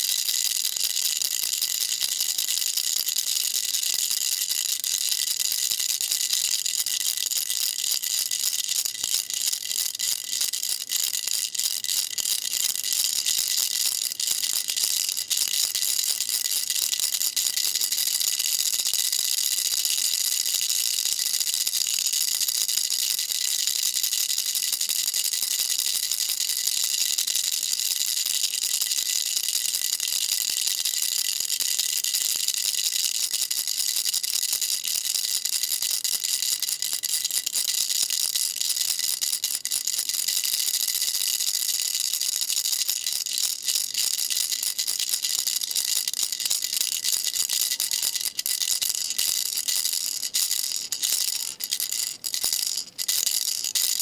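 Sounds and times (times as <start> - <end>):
baby rattle shaken: 0.0 - 54.0.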